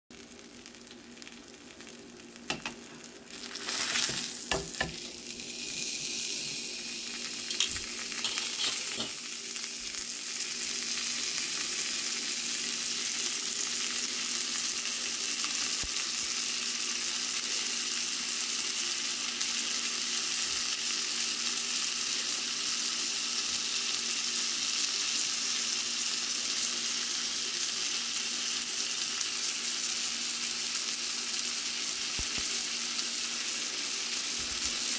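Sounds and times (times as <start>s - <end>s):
fish sizzling in a skillet: 0.1s - 34.9s.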